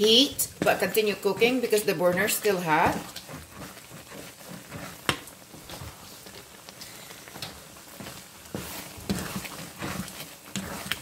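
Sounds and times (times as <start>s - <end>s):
spoon stirring thick food: 0.0s - 11.0s.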